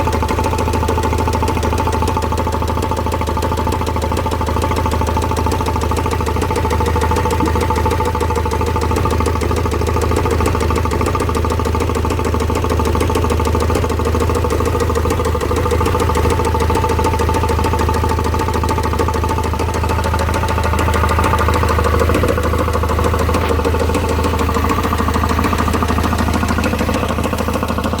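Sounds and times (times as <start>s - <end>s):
diesel engine idling with knock: 0.0s - 28.0s.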